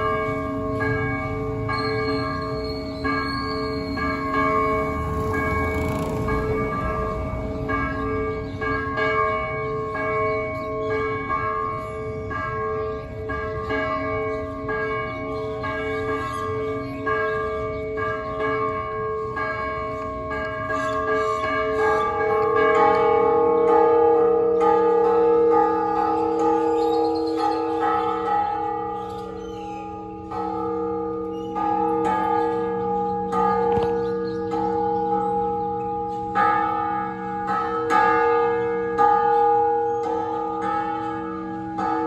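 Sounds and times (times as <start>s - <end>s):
church bells pealing: 0.0s - 42.0s.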